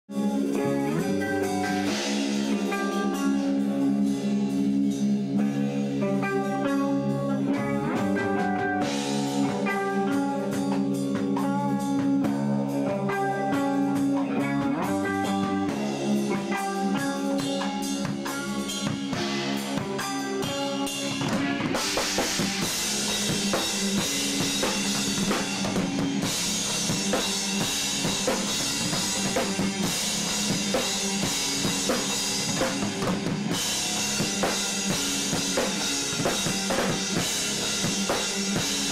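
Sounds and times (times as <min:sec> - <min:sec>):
drum kit and cymbals: 0:00.1 - 0:38.9
electric guitar chords: 0:00.1 - 0:38.9.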